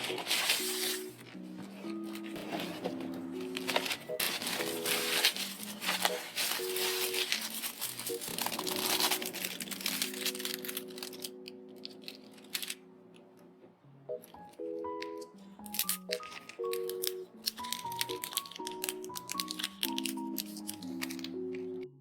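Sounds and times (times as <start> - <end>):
packaging crinkling and tearing: 0.0 - 12.9, 15.0 - 21.7
soft background music: 0.0 - 22.0.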